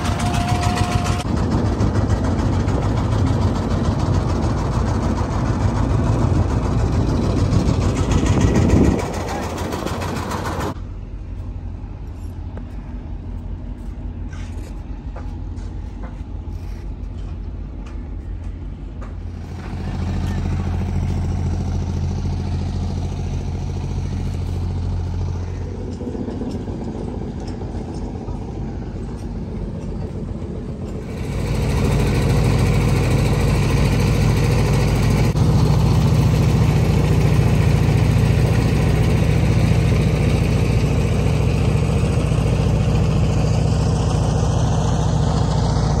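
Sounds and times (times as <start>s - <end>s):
boat motor humming: 0.0s - 10.8s, 17.6s - 46.0s.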